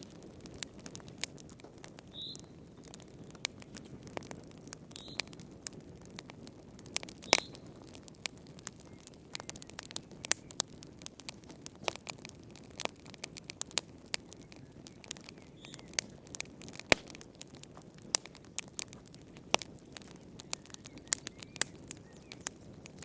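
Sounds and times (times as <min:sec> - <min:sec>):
low steady fire hiss: 0:00.0 - 0:23.0
wood fire crackling and popping: 0:00.0 - 0:23.0.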